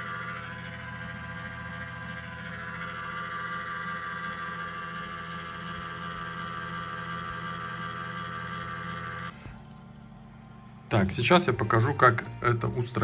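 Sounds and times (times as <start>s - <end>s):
cooling fan whining: 0.0s - 13.0s.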